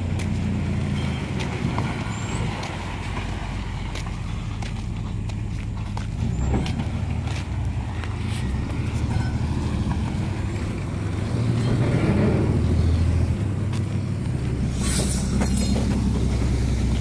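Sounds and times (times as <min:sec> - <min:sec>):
truck diesel engine rumbling: 0:00.0 - 0:17.0.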